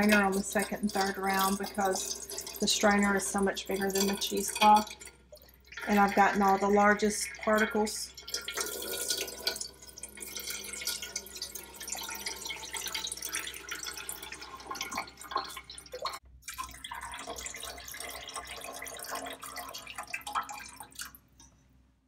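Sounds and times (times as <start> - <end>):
liquid splashing and dripping: 0.0 - 21.6.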